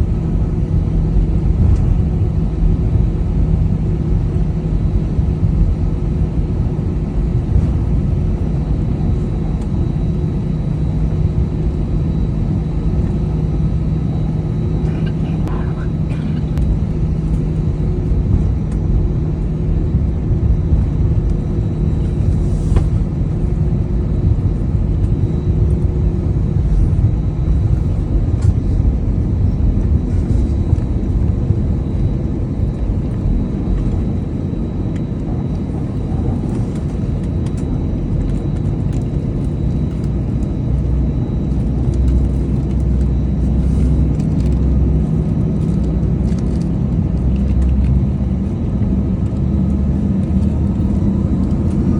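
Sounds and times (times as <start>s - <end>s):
aircraft cabin engine rumble: 0.0s - 51.9s
low hum: 0.0s - 51.9s.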